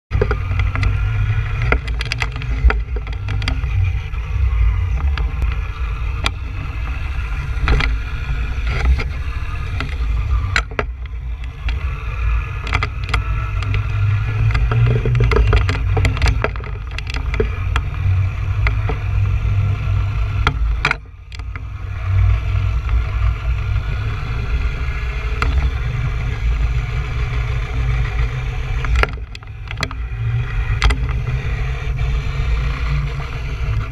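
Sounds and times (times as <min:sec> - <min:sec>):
electric motor whine: 0:00.1 - 0:33.9
scattered clicks: 0:00.1 - 0:33.9
tyre noise: 0:00.1 - 0:33.9
wind buffeting on microphone: 0:00.1 - 0:33.9.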